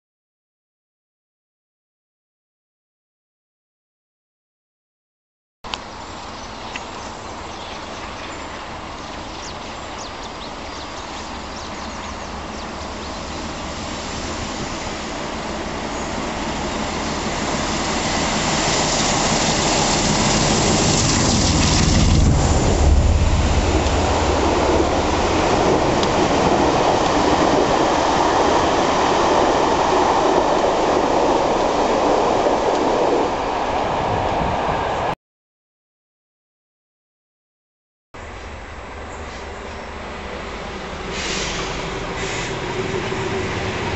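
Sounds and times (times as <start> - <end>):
diesel locomotive engine: 5.7 - 35.2, 38.2 - 43.9.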